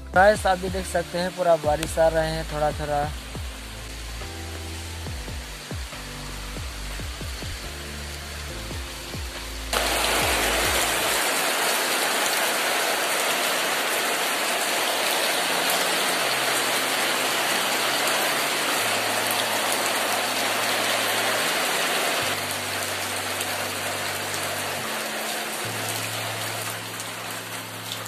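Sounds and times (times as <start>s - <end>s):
rain falling on puddles: 0.0s - 28.0s.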